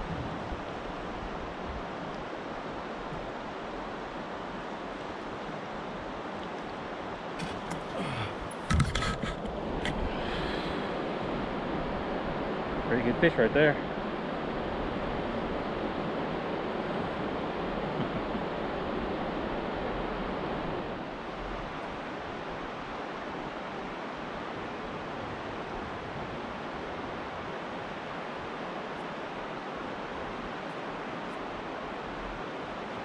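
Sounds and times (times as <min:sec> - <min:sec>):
river water rushing over shoals: 0:00.0 - 0:33.0.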